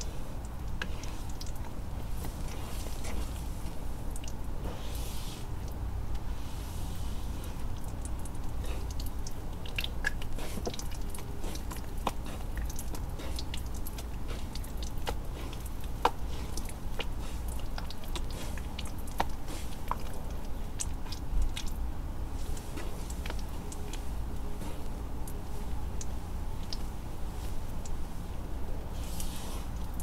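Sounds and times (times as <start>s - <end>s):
wet paste squelching: 0.0s - 5.8s, 7.5s - 28.0s.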